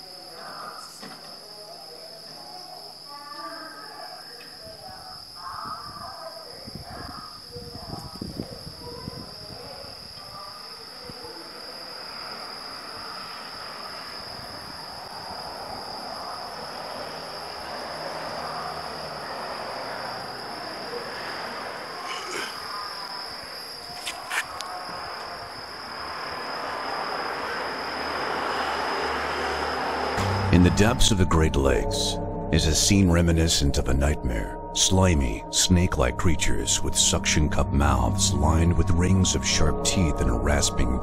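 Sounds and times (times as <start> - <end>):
high insect trill: 0.0 - 41.0.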